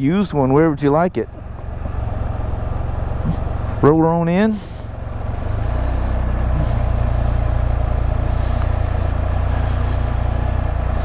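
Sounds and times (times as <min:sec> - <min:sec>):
three-cylinder engine rumbling: 0:00.0 - 0:11.0.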